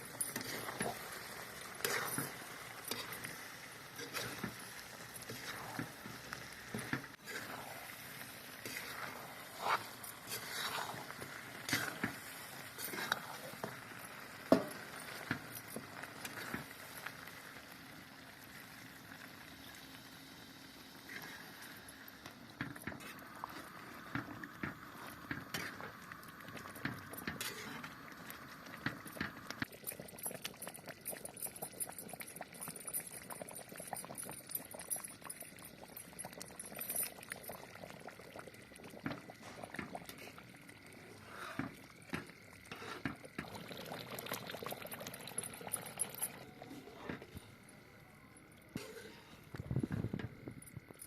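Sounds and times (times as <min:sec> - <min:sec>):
curry bubbling in a pot: 0:00.0 - 0:47.8.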